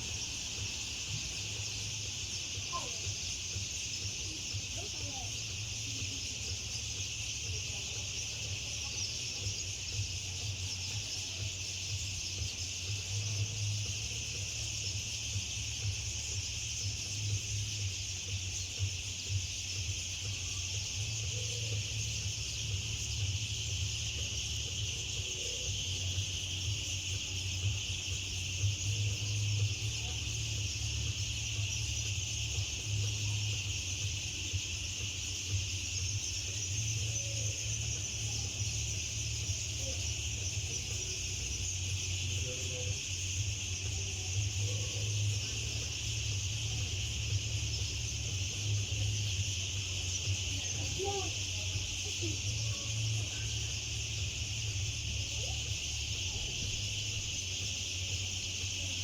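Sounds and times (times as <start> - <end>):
flock of birds chattering: 0.0 - 59.0.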